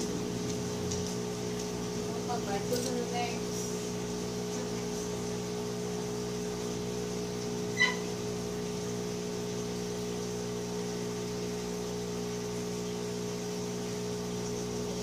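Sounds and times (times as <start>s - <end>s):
hot air station hum and hiss: 0.0s - 15.0s.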